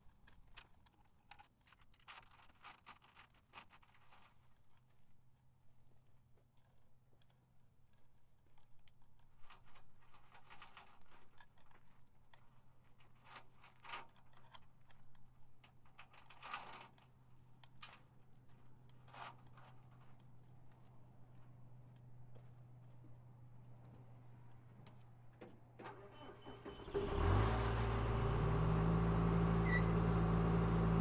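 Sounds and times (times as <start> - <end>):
faint rustles and clicks: 0.0 - 26.1.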